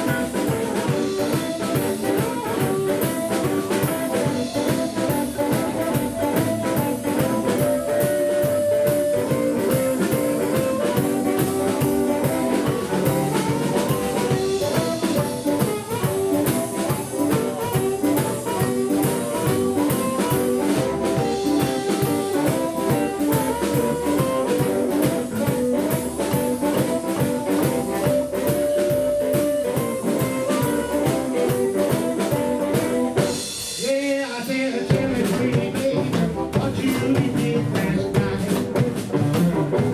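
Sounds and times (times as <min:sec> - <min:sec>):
double bass: 0:00.0 - 0:33.4, 0:34.9 - 0:39.9
amplified harmonica solo: 0:00.0 - 0:33.6
drum kit shuffle beat: 0:00.0 - 0:39.9
electric guitar: 0:00.0 - 0:39.9.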